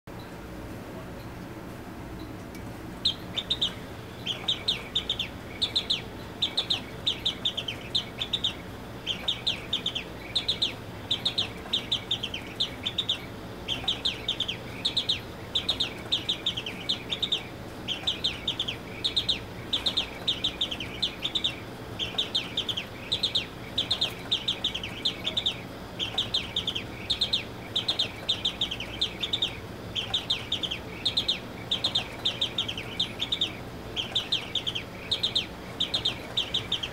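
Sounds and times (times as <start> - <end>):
mechanical bird whistle trills: 3.1 - 36.9.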